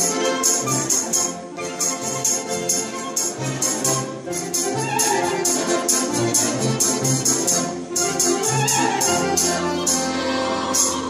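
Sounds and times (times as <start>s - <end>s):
folk orchestra playing: 0.0s - 11.0s.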